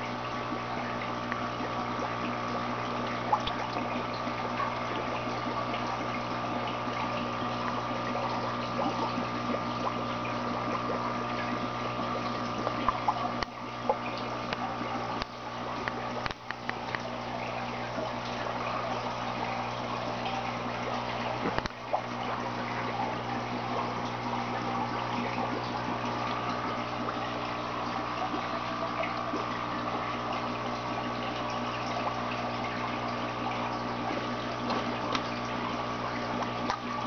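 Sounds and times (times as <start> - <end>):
water pump humming: 0.0 - 37.0
water trickling and splashing: 0.0 - 37.0.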